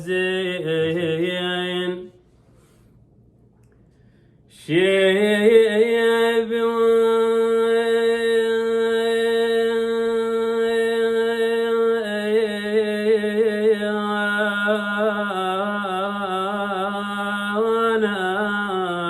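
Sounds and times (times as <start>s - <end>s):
man singing unaccompanied: 0.0s - 2.2s, 4.6s - 19.0s.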